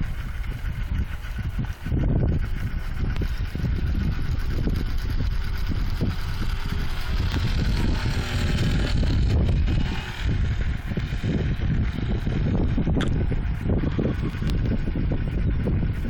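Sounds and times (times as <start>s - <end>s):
model airplane motor humming: 0.0s - 16.0s
wind buffeting microphone: 0.0s - 16.0s.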